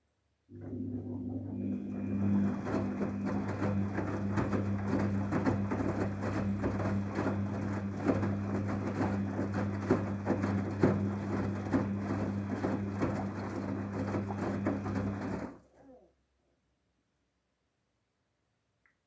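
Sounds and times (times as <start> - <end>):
washing machine hum: 0.5 - 16.0.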